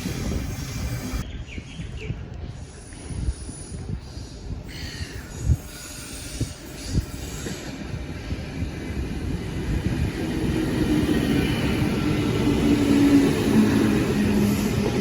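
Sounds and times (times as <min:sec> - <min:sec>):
train rumble: 0:00.0 - 0:01.3, 0:02.1 - 0:15.0.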